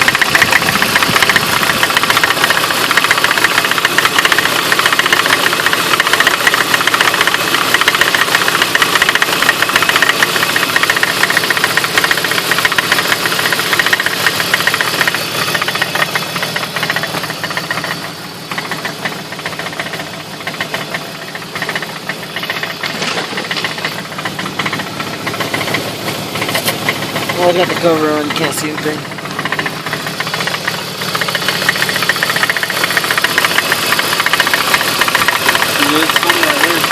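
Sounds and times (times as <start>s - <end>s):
car engine idling: 0.0s - 36.9s
rapid knocking from engine: 0.0s - 36.9s.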